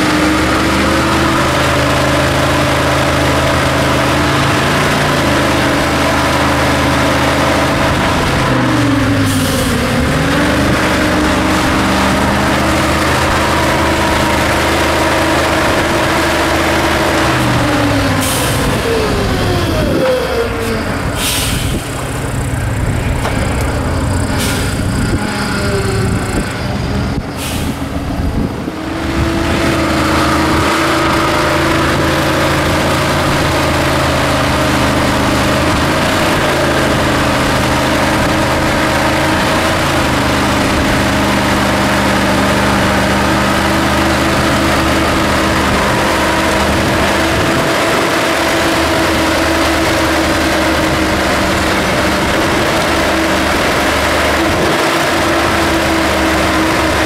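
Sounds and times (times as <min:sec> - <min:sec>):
truck engine running at low speed: 0:00.0 - 0:57.0.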